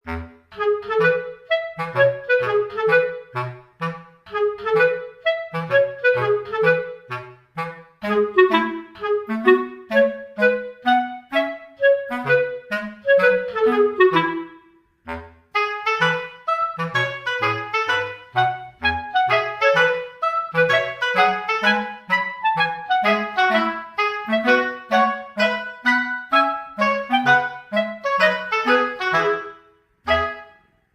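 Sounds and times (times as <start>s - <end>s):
bouncy background music: 0.0s - 30.6s.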